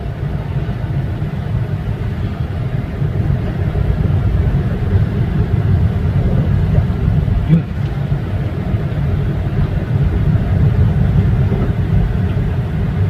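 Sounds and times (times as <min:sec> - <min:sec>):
car cabin road noise rumble: 0:00.0 - 0:13.0.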